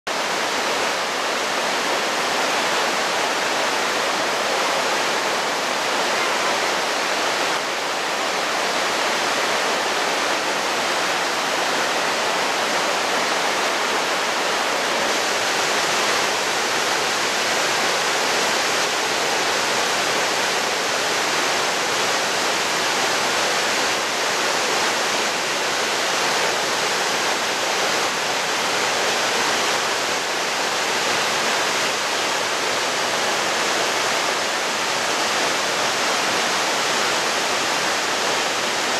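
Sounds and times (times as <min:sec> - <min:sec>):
waterfall rushing: 0:00.1 - 0:38.9.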